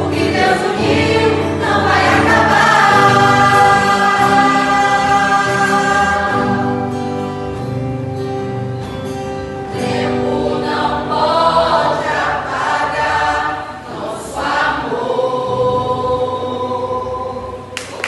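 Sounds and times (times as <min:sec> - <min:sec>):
choir singing a hymn: 0:00.0 - 0:07.8, 0:09.5 - 0:17.9.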